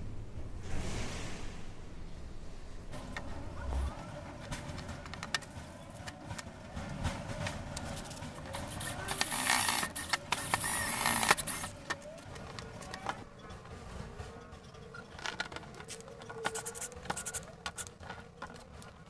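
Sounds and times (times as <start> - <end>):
harsh rasping noise: 3.0 - 19.0.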